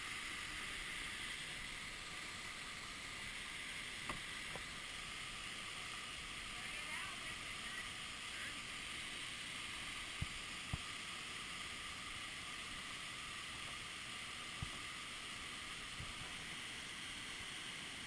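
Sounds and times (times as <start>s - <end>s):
waterfall rushing into pool: 0.0s - 18.0s.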